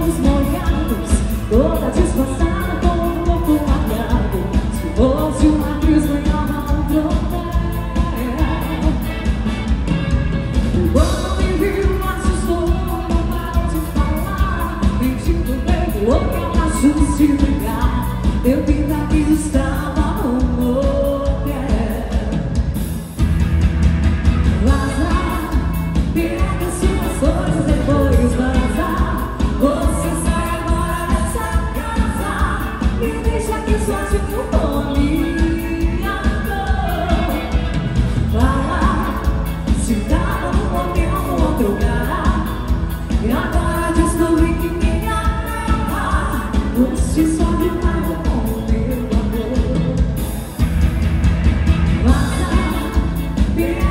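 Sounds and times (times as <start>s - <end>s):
woman singing: 0.0s - 22.9s, 24.4s - 50.6s, 51.8s - 53.9s
dance band playing: 0.0s - 53.9s
drums: 0.0s - 53.9s
electric guitar: 0.0s - 53.9s.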